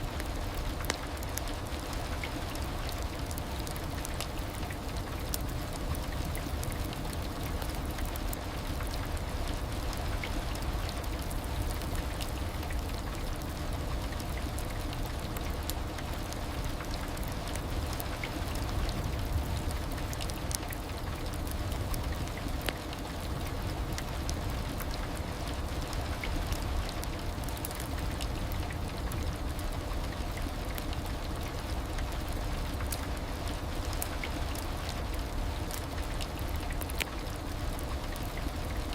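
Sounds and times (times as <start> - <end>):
raindrop ticks: 0.1 - 38.9.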